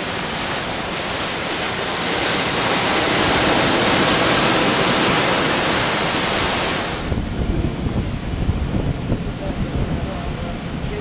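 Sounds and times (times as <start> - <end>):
sea rushing: 0.0 - 11.0
wind buffeting microphone: 0.0 - 11.0.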